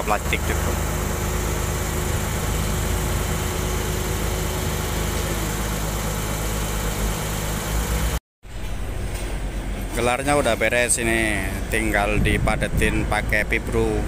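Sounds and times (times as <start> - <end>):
machinery engine idling: 0.0 - 14.0.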